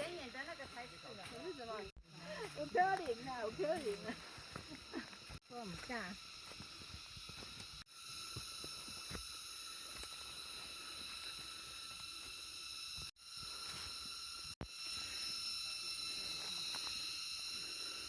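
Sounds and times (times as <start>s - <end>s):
forest insects droning: 0.0s - 18.0s.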